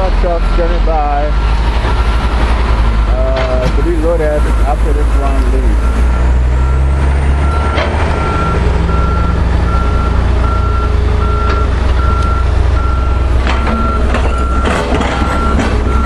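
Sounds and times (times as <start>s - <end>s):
diesel engines running: 0.0s - 16.0s
truck reversing alarm beeping: 0.0s - 16.0s.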